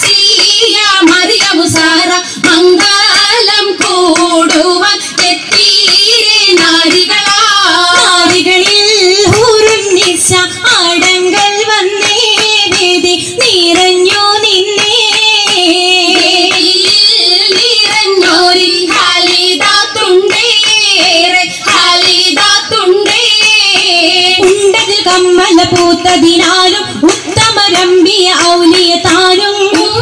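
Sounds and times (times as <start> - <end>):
high voices singing a melody: 0.0 - 30.0
percussive beat: 0.0 - 30.0.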